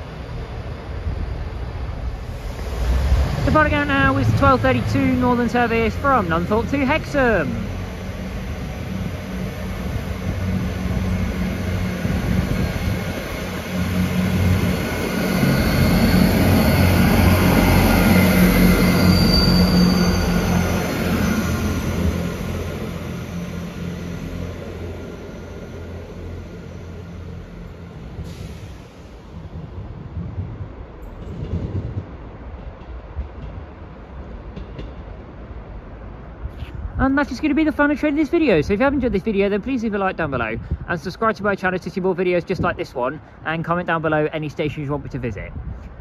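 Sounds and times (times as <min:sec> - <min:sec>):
diesel train engines: 0:00.0 - 0:46.0.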